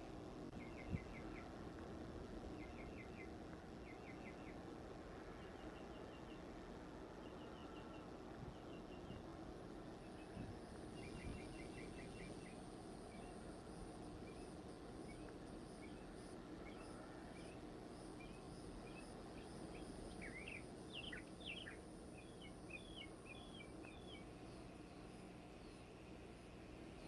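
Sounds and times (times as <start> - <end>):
low background noise: 0.0 - 27.0
small birds chirping: 0.0 - 27.0.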